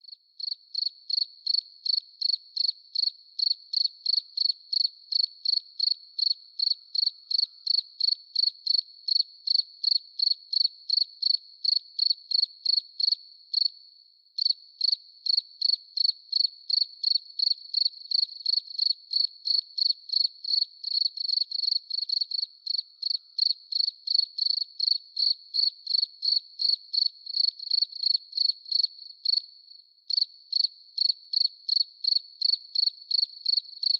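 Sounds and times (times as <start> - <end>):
crickets chirping: 0.4 - 13.7, 14.4 - 29.4, 30.1 - 33.9.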